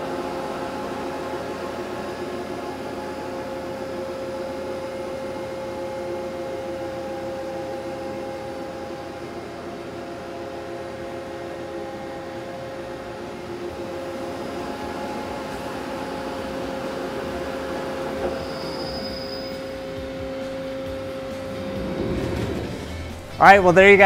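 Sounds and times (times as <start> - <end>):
lathe mechanical whine: 0.0 - 23.3.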